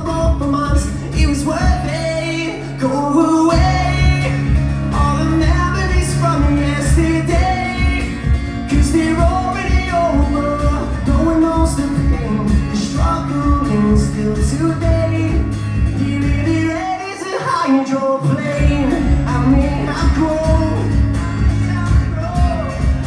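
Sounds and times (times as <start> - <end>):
cajon beat: 0.0 - 2.5, 3.5 - 17.2, 18.4 - 23.0
electric guitar: 0.0 - 23.0
man singing: 0.0 - 23.0
strummed acoustic guitar: 0.0 - 23.0.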